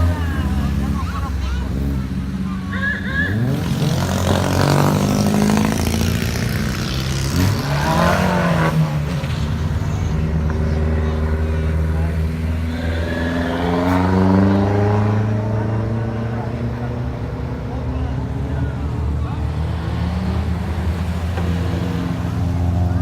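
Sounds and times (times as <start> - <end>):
car engine revving and shifting gear: 3.2 - 23.0.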